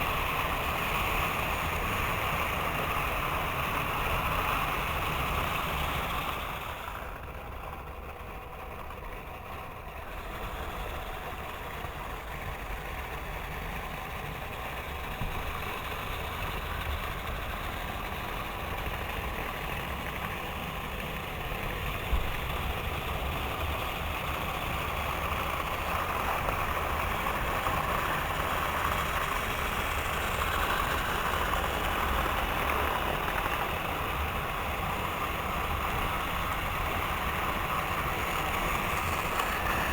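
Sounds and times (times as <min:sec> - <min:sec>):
model trains whirring: 0:00.0 - 0:39.9.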